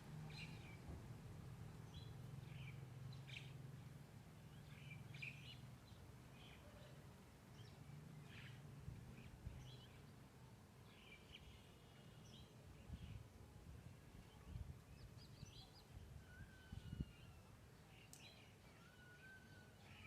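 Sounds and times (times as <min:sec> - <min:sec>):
low steady background hum: 0:00.0 - 0:20.0.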